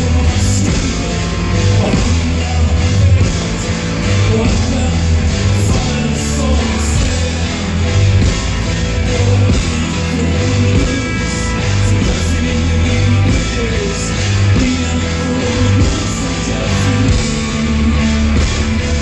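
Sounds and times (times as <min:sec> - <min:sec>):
live rock band playing: 0:00.0 - 0:19.0
man singing: 0:00.0 - 0:19.0.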